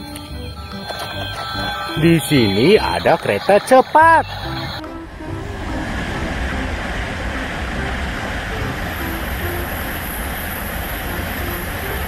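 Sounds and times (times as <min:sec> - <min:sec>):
thin high whine: 0:00.0 - 0:12.0
train rushing past: 0:00.8 - 0:12.0.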